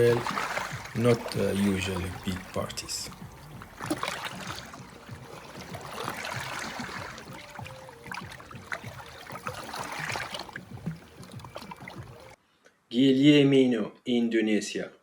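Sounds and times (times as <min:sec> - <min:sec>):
water splashing: 0:00.0 - 0:12.4.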